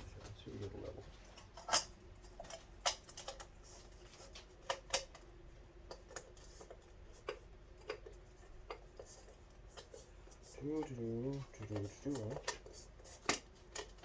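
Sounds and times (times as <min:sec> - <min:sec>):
faint steady hum: 0:00.0 - 0:14.0
small parts clicking and tapping: 0:01.3 - 0:14.0.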